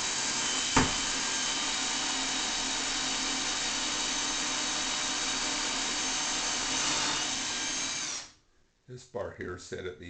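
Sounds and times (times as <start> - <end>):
power tool motor whirring: 0.0 - 8.3.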